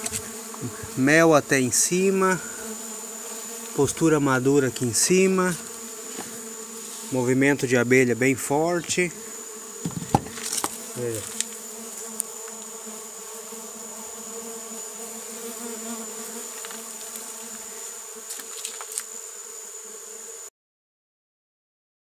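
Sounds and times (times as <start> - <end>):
bees buzzing at hive: 0.0 - 20.5.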